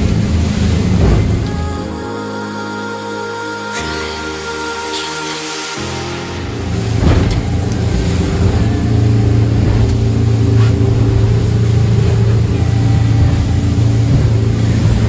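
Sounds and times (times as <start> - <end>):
boat engine drone: 0.0 - 15.0
water rushing around hull: 0.0 - 15.0.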